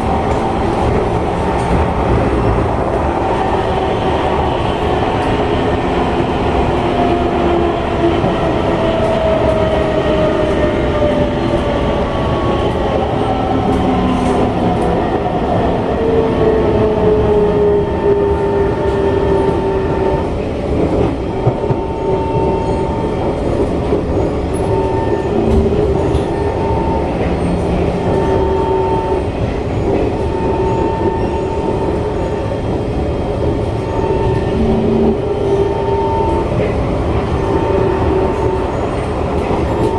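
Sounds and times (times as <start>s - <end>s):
wheel and rail rumble: 0.0s - 39.9s.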